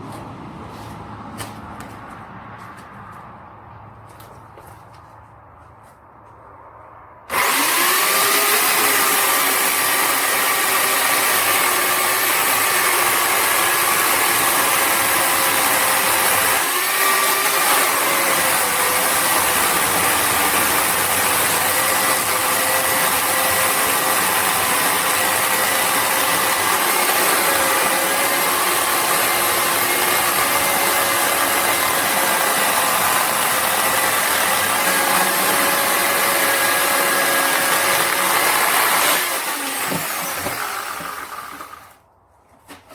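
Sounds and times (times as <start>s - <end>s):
electric chainsaw whining: 7.3s - 42.0s.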